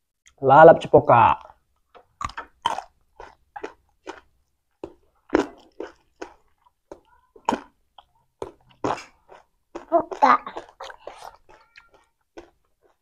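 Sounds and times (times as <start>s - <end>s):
crisp chewing crunches: 1.4s - 13.0s.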